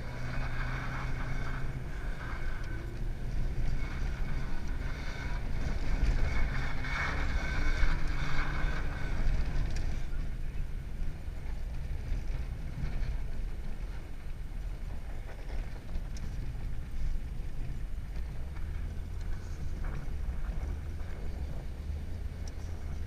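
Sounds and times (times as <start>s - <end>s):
car engine under load: 0.0s - 23.0s
wind noise: 0.0s - 23.0s.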